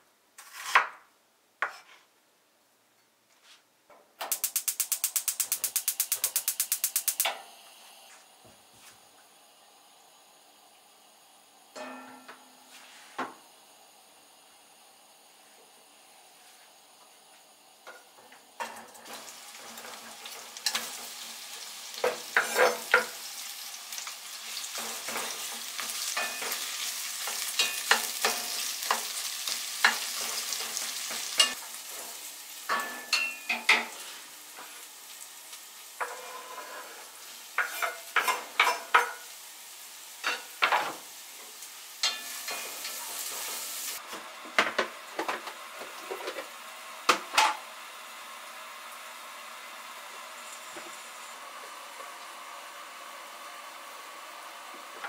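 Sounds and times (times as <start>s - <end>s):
onions sizzling in a pot: 4.2s - 55.0s.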